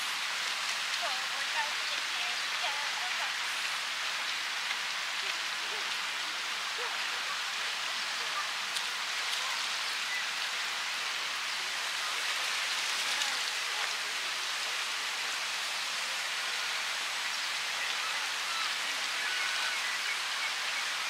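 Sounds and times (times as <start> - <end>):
river flowing: 0.0 - 21.0.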